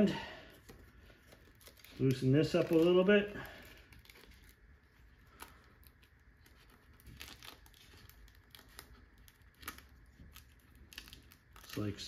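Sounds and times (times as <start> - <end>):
strap rustling through plastic buckle: 0.5 - 12.0.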